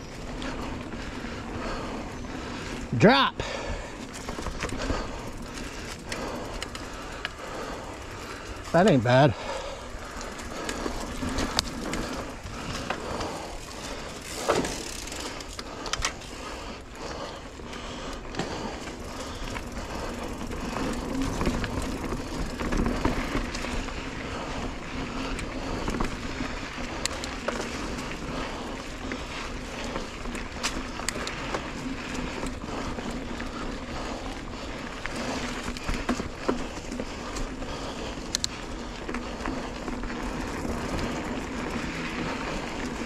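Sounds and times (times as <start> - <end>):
bike clattering over bumps: 0.0 - 43.0
bike tyres rushing on dirt: 0.0 - 43.0.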